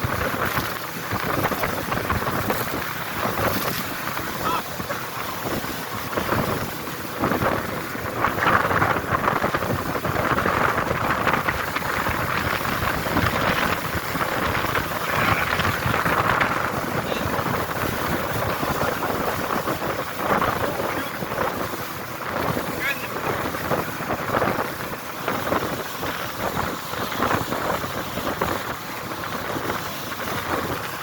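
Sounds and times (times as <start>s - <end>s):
water rushing past boat: 0.0s - 31.0s
wind buffeting microphone: 0.0s - 31.0s.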